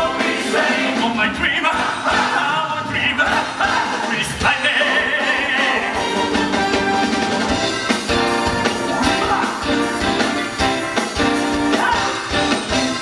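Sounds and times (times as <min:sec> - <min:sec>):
rock and roll band playing: 0:00.0 - 0:13.0.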